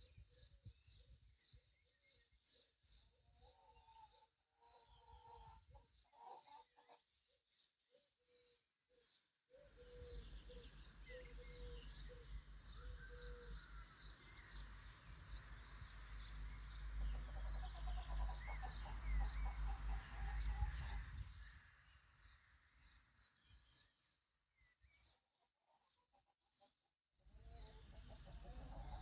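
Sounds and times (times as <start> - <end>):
small birds chirping: 0.0 - 26.7, 27.4 - 29.0.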